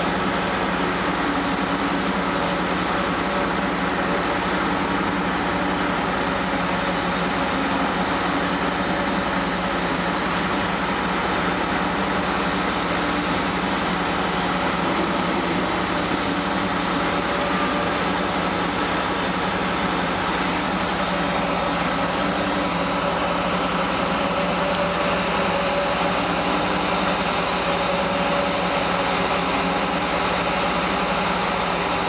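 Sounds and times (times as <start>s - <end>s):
excavator diesel engine droning: 0.0s - 32.0s.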